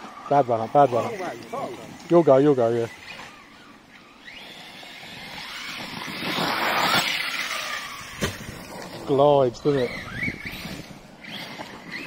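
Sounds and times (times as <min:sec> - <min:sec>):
electric motor whining: 0:00.0 - 0:12.0
rushing drive noise: 0:00.0 - 0:12.0.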